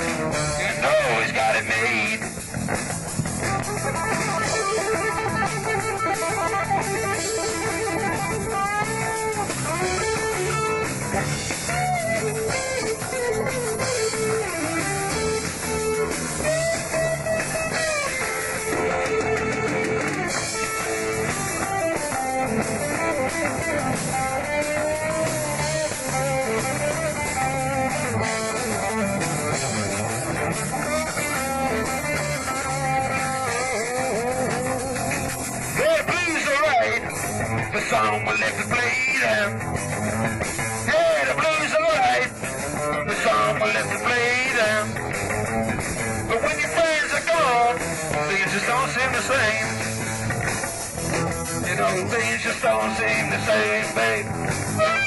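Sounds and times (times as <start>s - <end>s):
blues-rock band playing: 0.0s - 55.0s
electric guitar lead: 0.0s - 55.0s.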